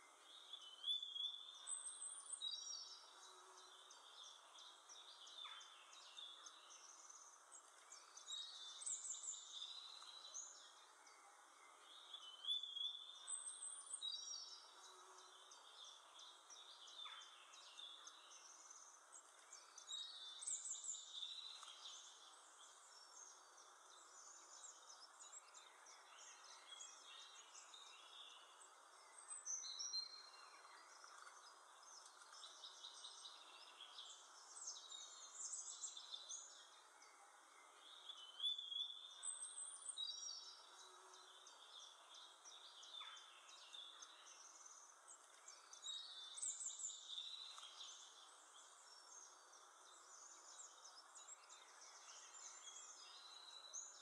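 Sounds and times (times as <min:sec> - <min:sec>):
faint bird chirping: 0:00.0 - 0:54.0.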